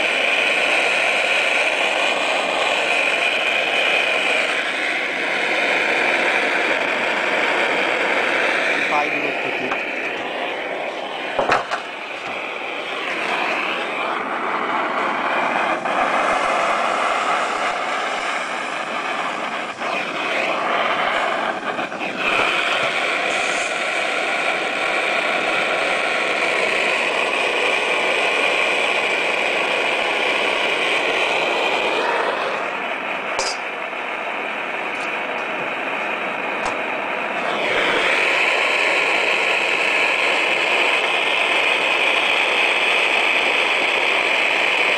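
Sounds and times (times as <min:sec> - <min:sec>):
gas burner hissing: 0:00.0 - 0:44.9.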